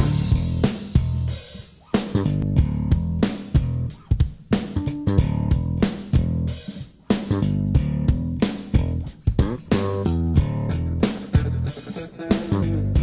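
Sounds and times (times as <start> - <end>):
guitar: 0.0 - 1.3, 1.9 - 13.0
bass guitar: 0.0 - 13.0
steady drum beat: 0.0 - 13.0.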